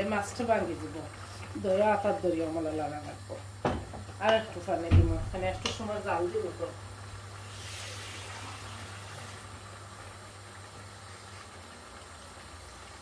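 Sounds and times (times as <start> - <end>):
pan simmering hiss: 0.0 - 13.0.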